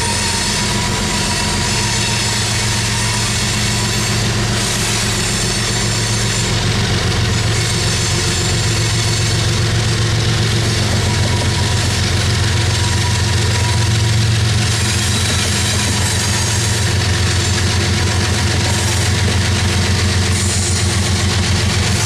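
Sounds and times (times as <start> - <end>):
diesel locomotive engine humming: 0.0 - 22.0.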